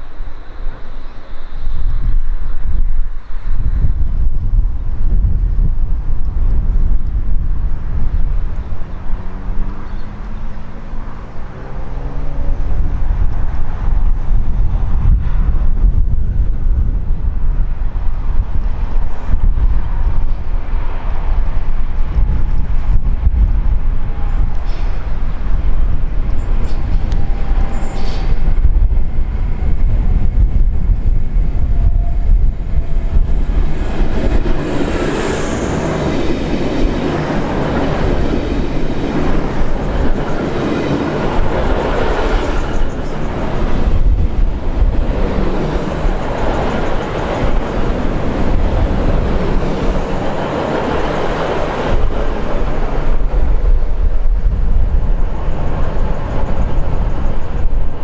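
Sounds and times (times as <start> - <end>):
train wheels rushing on rail: 0.0 - 58.0.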